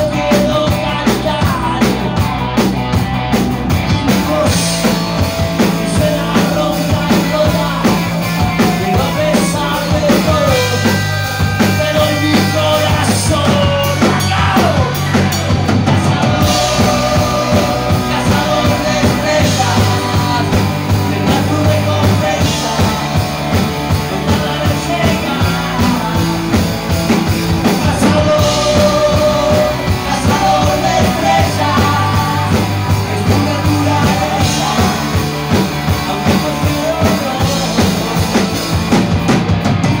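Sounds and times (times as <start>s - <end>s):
person singing: 0.0s - 2.4s, 3.7s - 38.7s
bass line: 0.0s - 40.0s
drum kit: 0.0s - 40.0s
electric guitars: 0.0s - 40.0s.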